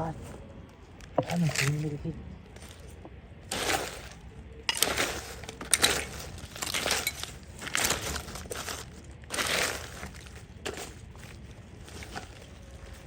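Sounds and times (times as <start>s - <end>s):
dry litter crunching rustles: 1.2s - 13.0s.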